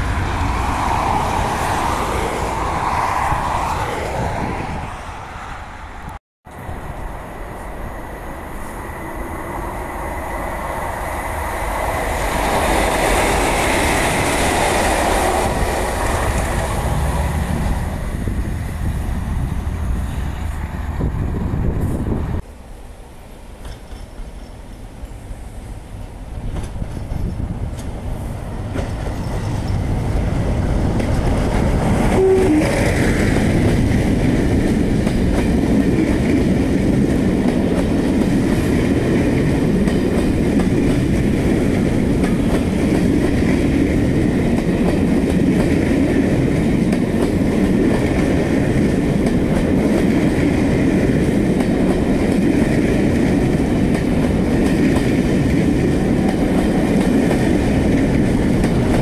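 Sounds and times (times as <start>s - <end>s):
passenger train passing on rails: 0.0s - 59.0s.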